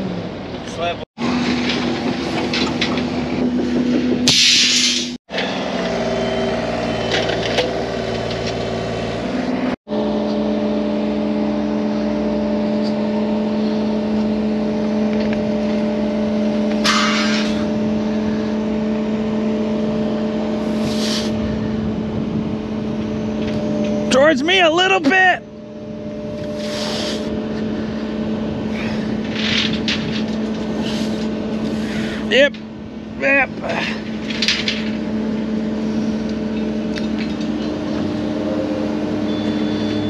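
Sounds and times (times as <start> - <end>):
excavator diesel engine running: 0.0 - 4.4, 5.3 - 40.0.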